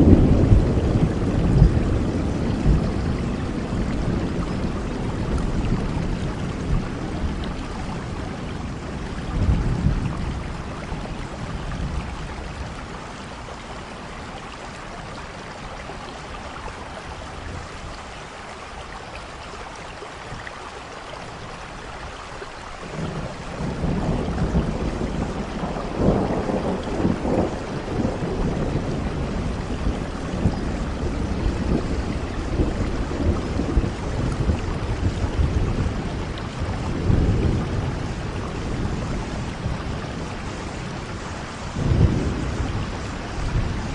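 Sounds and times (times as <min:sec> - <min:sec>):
thunder rumbling: 0:00.0 - 0:16.3, 0:22.8 - 0:43.9
steady rainfall: 0:00.0 - 0:43.9.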